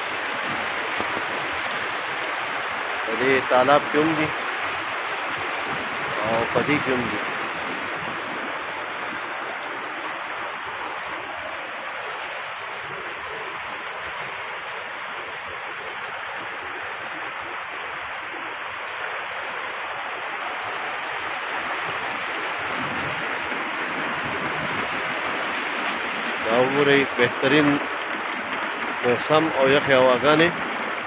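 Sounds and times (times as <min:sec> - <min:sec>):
flowing water rushing: 0:00.0 - 0:31.0.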